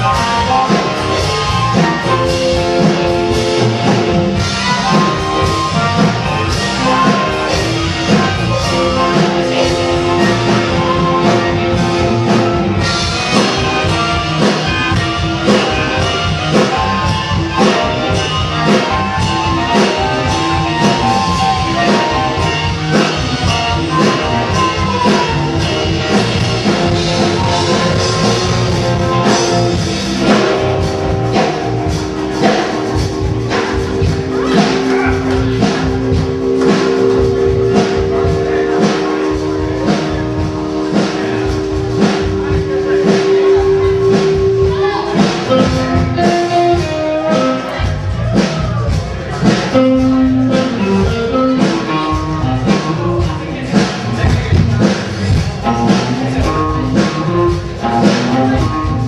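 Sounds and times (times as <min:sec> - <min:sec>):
drum kit beating: 0:00.0 - 0:59.0
electric guitars: 0:00.0 - 0:59.0.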